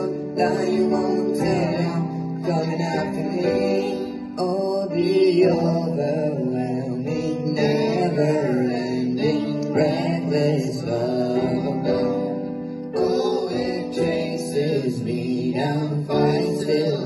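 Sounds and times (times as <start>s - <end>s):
boys singing worship song: 0.0s - 17.0s
electronic keyboard chords: 0.0s - 17.0s.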